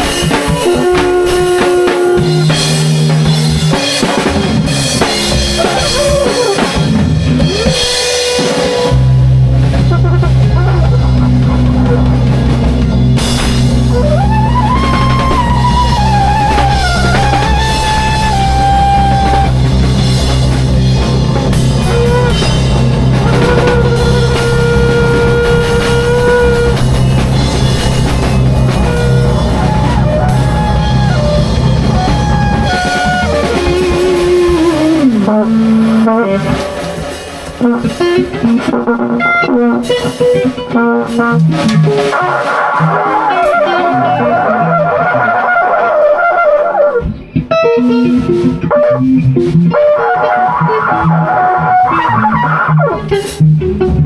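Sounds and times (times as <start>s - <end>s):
drum kit: 0.0s - 54.0s
guitar: 0.0s - 54.0s.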